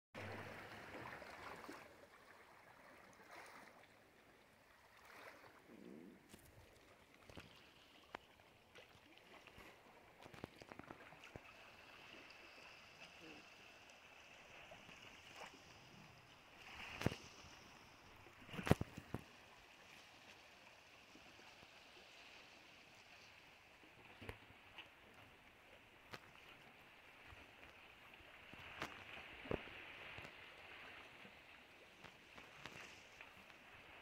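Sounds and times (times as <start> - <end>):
water lapping: 0.2 - 34.0.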